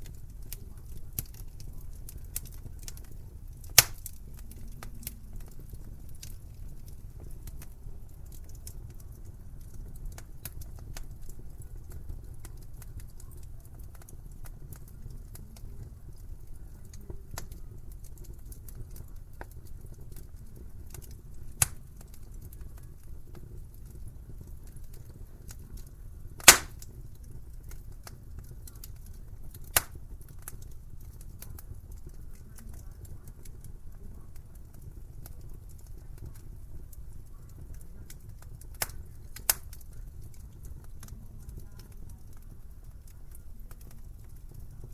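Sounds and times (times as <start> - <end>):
burning wood popping: 0.0 - 44.9
fire crackling: 0.0 - 44.9.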